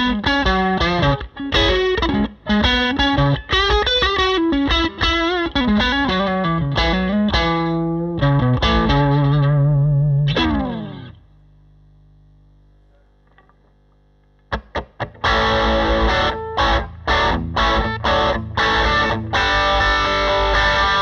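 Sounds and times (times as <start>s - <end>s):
electric guitar notes: 0.0s - 11.3s, 14.4s - 21.0s
amplifier low hum: 0.0s - 21.0s.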